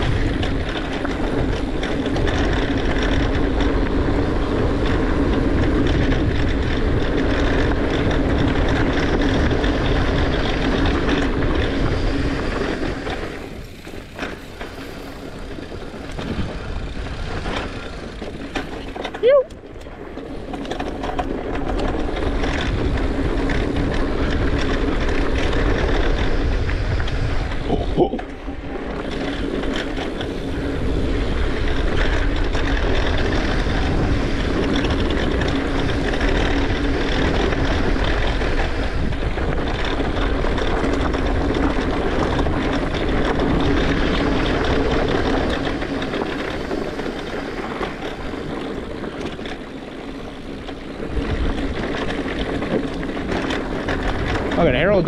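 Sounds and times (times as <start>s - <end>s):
bike tyres on dirt: 0.0s - 55.0s
wind rush: 0.0s - 55.0s.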